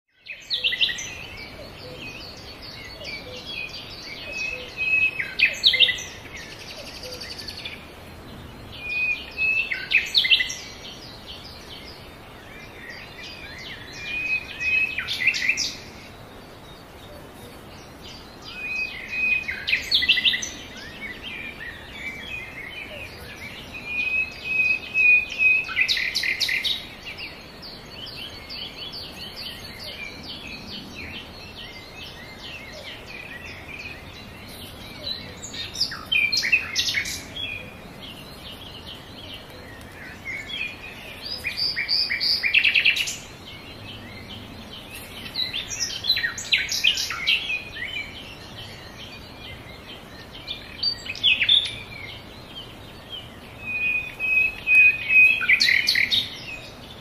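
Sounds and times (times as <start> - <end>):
background chatter of bird chirps: 0.1 - 57.0.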